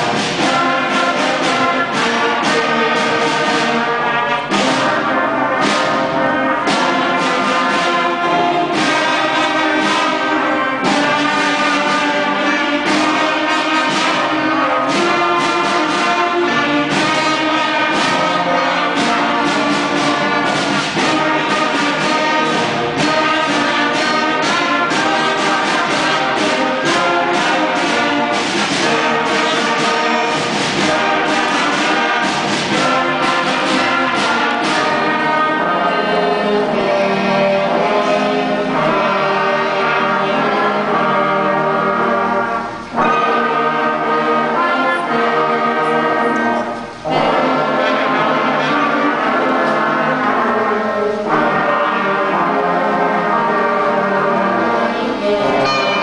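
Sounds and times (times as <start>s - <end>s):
concert band playing: 0.0s - 56.0s.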